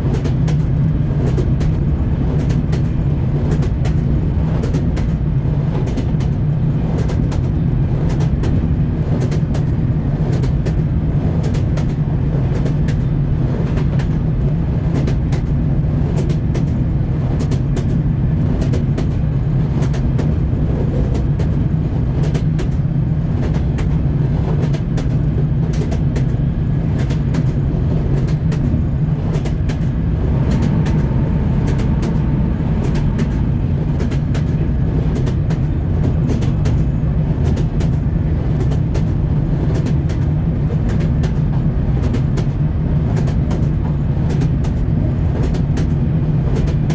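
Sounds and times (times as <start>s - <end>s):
moving train rumble: 0.0s - 46.9s
train wheels clacking: 0.0s - 46.9s.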